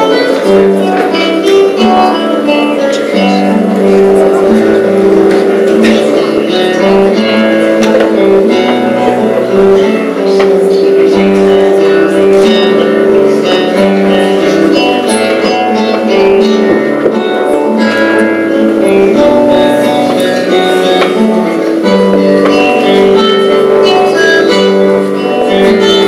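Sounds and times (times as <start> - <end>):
guitar plucked and strummed: 0.0 - 26.0.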